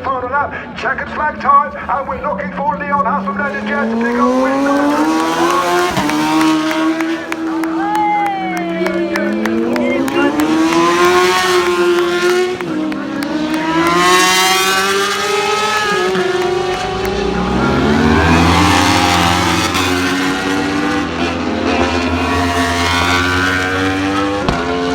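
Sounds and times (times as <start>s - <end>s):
race motorcycles revving past: 3.0s - 24.9s.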